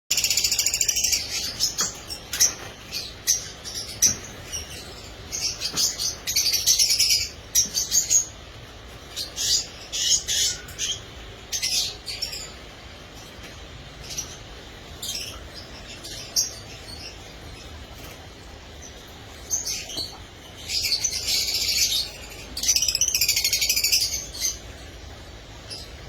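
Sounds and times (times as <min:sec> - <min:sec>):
birds chirping and chattering: 0:00.1 - 0:26.0.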